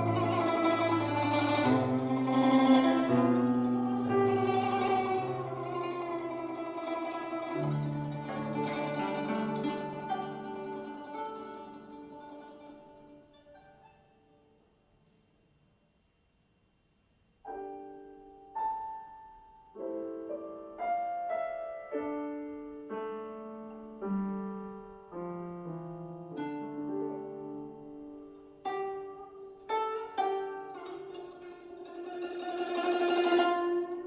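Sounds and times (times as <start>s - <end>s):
zither and piano duet: 0.0s - 14.1s, 17.5s - 34.0s.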